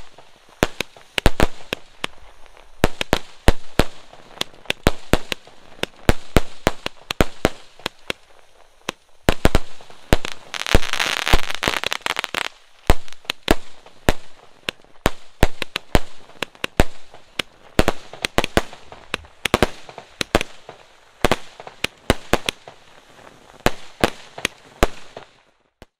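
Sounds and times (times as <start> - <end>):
dense firework crackling: 0.0 - 25.9.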